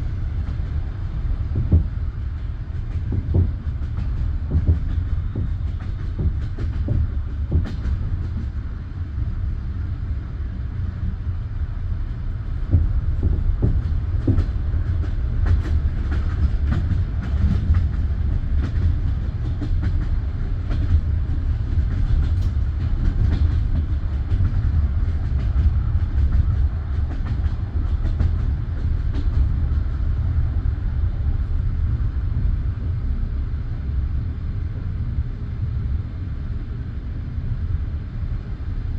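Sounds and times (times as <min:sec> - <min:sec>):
train carriage rumbling on rails: 0:00.0 - 0:38.9.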